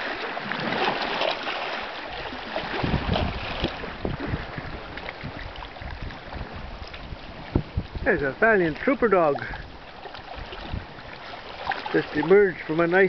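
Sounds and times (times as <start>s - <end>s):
waves lapping against rocks: 0.0s - 13.0s
wind buffeting microphone: 2.1s - 13.0s.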